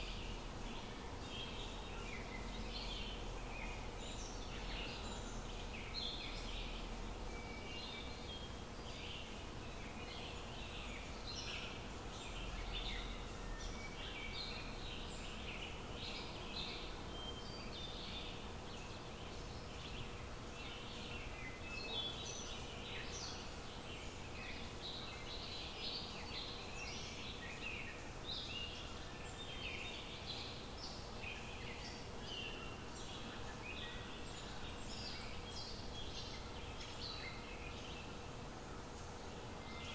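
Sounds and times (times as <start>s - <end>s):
faint steady hum: 0.0s - 39.9s
small birds chirping: 0.0s - 39.9s.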